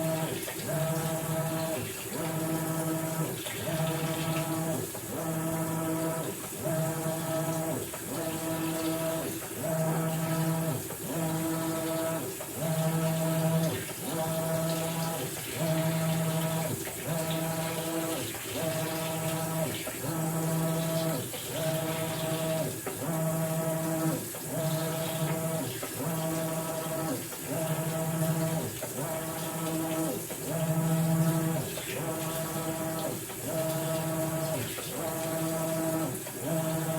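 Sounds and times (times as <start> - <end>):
washing machine motor humming: 0.0 - 36.9.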